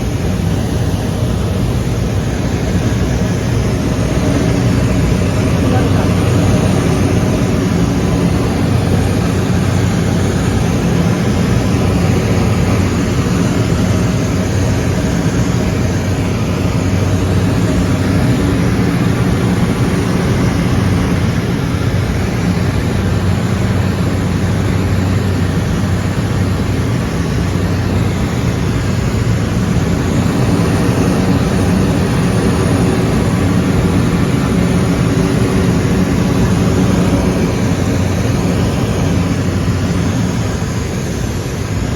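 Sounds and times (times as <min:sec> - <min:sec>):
aircraft engine drone in cabin: 0:00.0 - 0:41.9.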